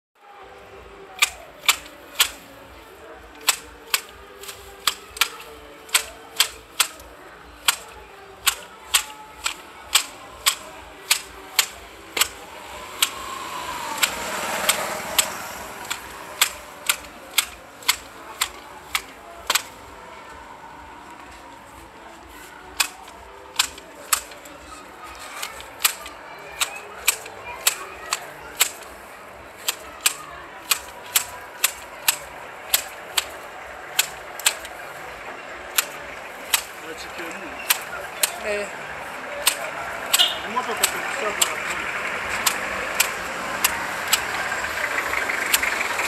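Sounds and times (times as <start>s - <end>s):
hedge shears clicking shut: 1.2s - 2.5s, 3.3s - 7.0s, 7.6s - 19.8s, 22.7s - 46.0s.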